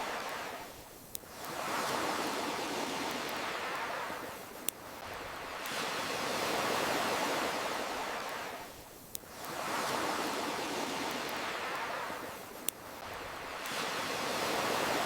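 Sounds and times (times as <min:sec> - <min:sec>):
ocean waves washing: 0:00.0 - 0:15.0.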